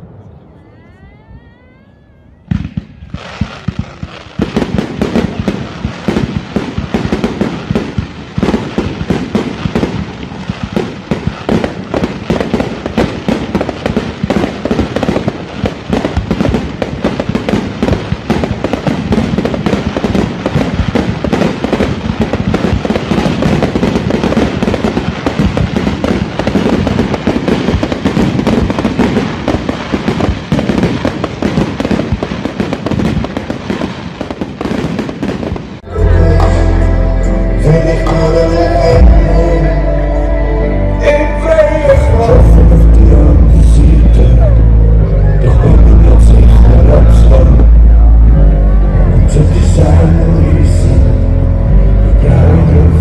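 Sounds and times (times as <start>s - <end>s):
fireworks bangs and crackling: 0.0s - 40.3s, 41.0s - 53.0s.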